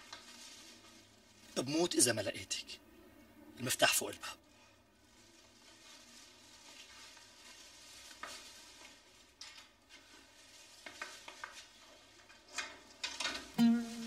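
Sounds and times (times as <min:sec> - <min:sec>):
plastic bag and paper rustling: 0:00.0 - 0:02.7, 0:04.7 - 0:14.0.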